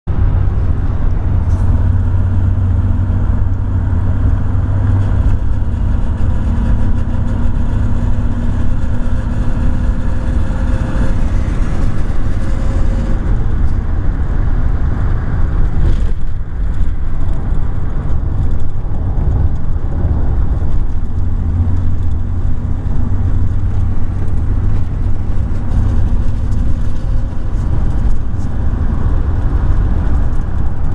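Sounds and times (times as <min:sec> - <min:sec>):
engine droning: 0:00.1 - 0:30.9
engine rattle: 0:00.1 - 0:30.9.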